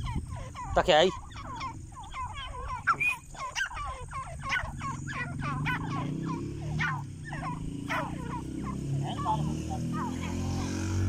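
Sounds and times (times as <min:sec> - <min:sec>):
birds calling harsh notes: 0:00.0 - 0:11.0.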